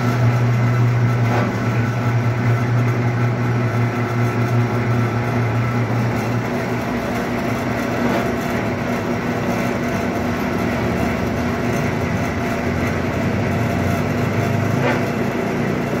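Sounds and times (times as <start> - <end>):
mortar mixer motor hum: 0.0 - 16.0.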